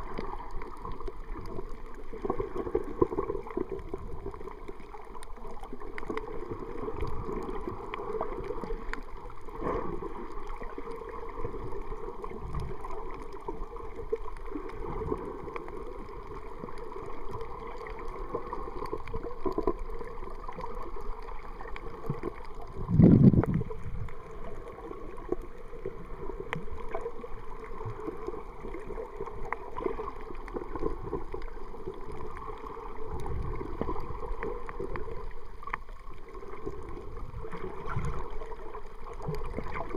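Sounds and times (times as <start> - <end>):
muffled underwater surf noise: 0.0 - 39.9.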